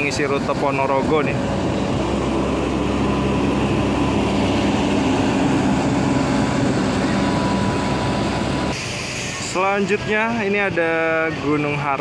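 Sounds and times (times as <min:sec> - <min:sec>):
coach diesel engine droning: 0:00.0 - 0:12.0.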